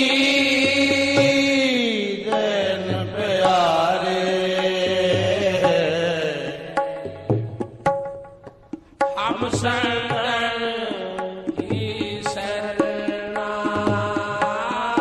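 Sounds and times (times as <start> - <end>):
person singing: 0.0 - 7.5, 9.1 - 15.0
tabla strokes: 0.0 - 15.0.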